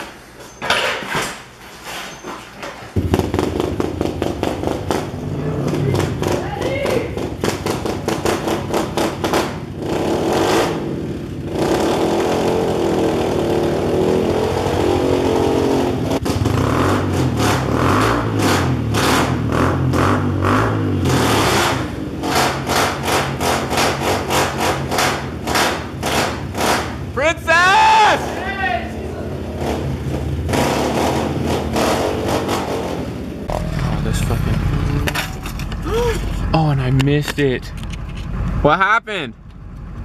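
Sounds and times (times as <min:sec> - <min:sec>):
motorbike engine revving: 0:03.0 - 0:27.2, 0:27.8 - 0:38.7.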